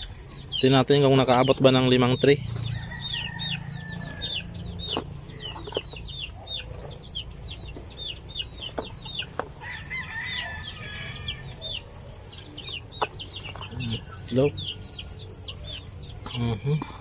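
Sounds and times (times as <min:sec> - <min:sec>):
chickens chirping: 0:00.0 - 0:17.0.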